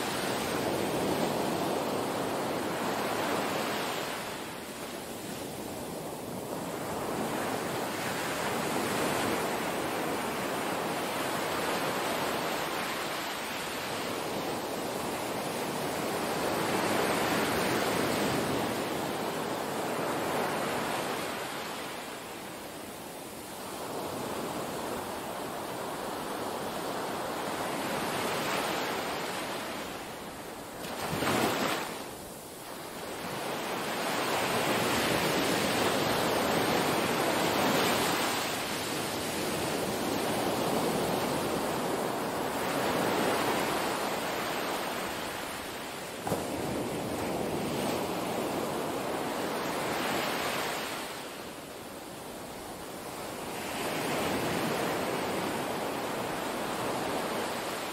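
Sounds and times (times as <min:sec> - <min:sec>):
small waves washing onto beach: 0:00.0 - 0:57.9.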